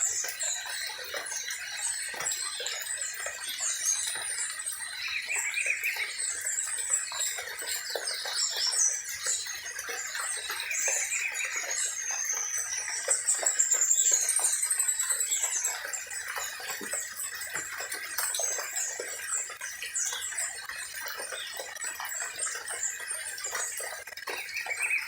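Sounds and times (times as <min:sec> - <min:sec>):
birds chirping and singing: 0:00.0 - 0:25.0.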